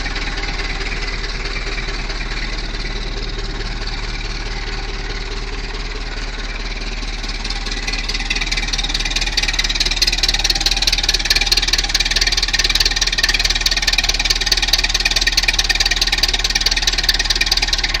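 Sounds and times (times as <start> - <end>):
tractor diesel engine clattering: 0.0 - 18.0.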